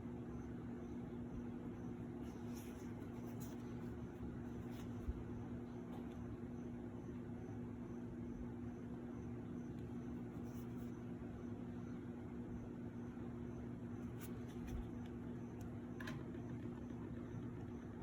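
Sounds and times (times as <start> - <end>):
room hum and hiss: 0.0 - 18.0.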